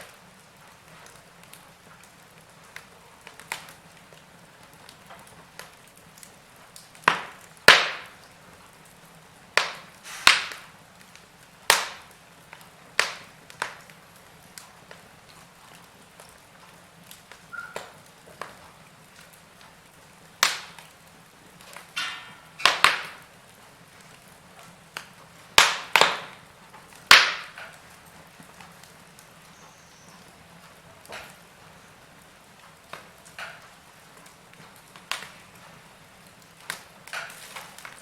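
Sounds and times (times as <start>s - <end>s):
faint steady hiss: 0.0s - 38.0s
logs crackling in fireplace: 0.0s - 38.0s.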